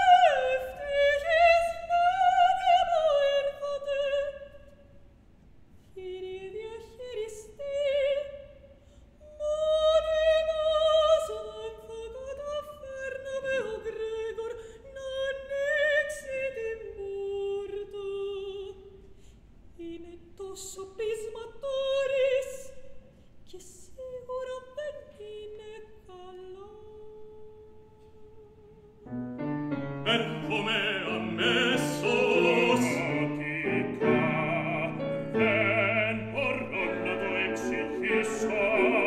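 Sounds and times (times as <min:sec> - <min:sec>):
woman singing opera: 0:00.0 - 0:04.8, 0:05.9 - 0:08.6, 0:09.2 - 0:18.9, 0:19.8 - 0:29.2, 0:30.1 - 0:39.0.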